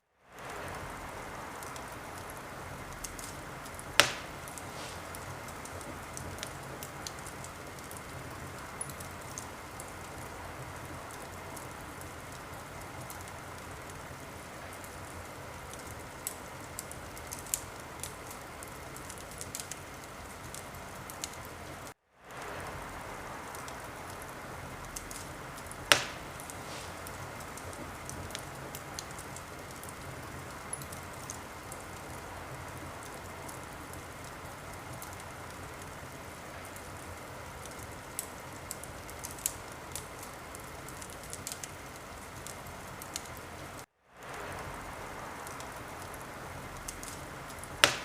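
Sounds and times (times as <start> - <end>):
wood fire crackling: 0.1 - 48.0
loud pops of fire: 0.4 - 43.4, 44.2 - 48.0.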